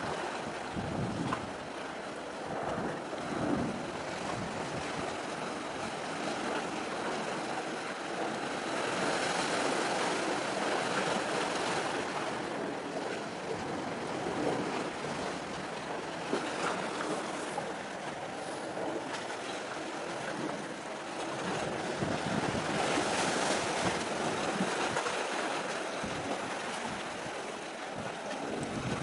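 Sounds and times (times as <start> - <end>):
sea waves: 0.0 - 29.0
wind: 0.0 - 29.0.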